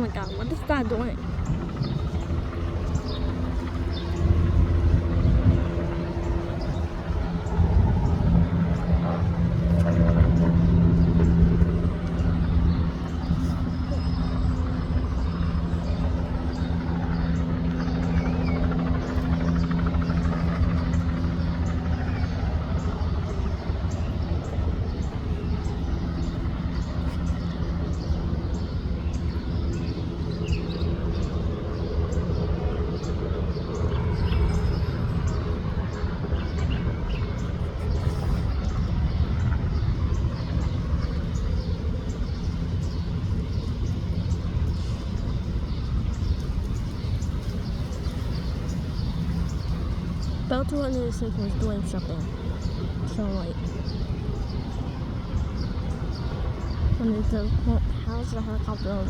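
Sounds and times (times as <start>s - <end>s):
helicopter turbine and rotor: 0.0s - 59.0s.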